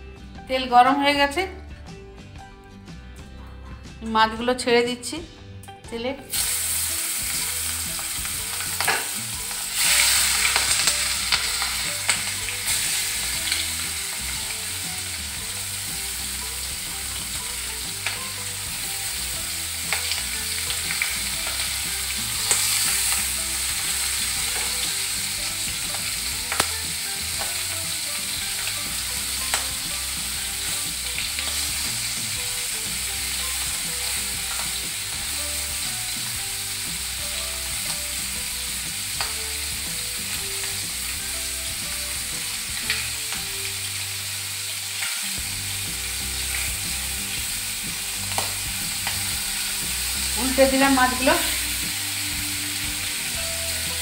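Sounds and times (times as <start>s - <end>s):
prawns sizzling in hot oil: 6.3s - 54.0s.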